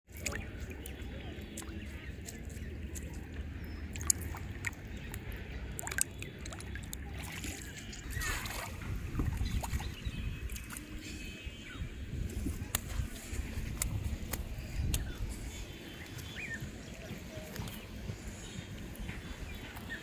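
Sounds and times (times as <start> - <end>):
water sloshing: 0.1 - 20.0.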